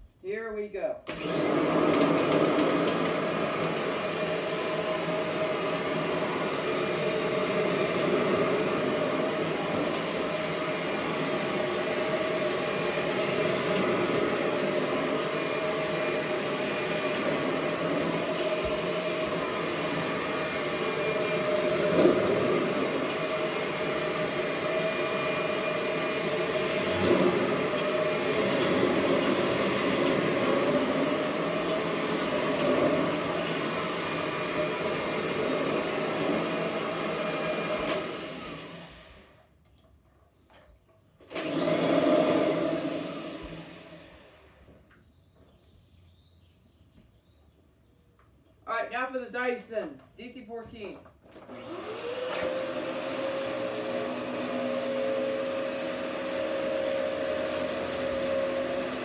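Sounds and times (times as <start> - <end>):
vacuum cleaner running over carpet: 1.1 - 39.3, 41.3 - 44.8, 51.4 - 59.0.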